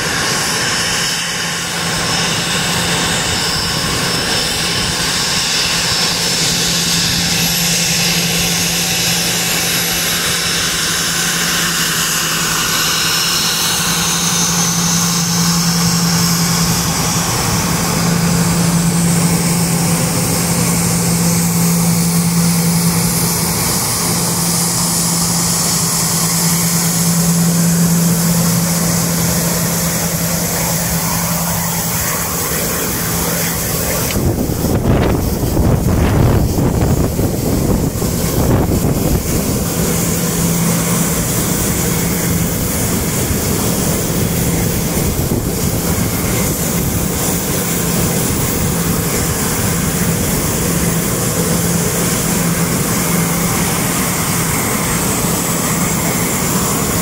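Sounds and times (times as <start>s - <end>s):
high engine whine: 0.0s - 57.0s
jet engine rush: 0.0s - 57.0s
low hum: 0.0s - 57.0s.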